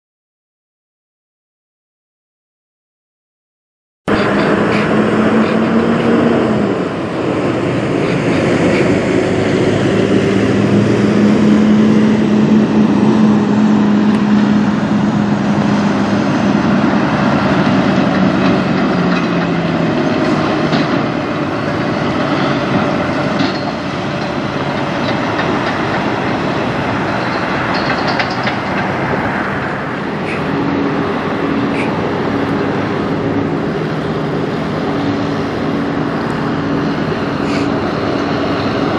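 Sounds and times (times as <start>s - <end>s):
truck diesel engines running: 4.1s - 38.9s.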